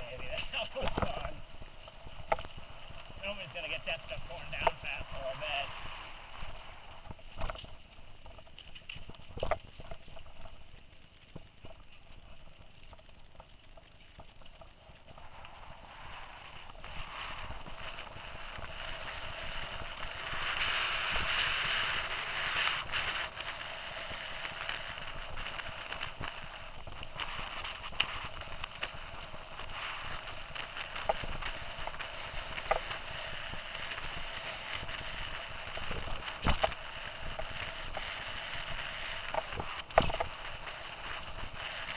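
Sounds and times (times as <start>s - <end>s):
bike tyre rumble and rattle: 0.0s - 41.9s.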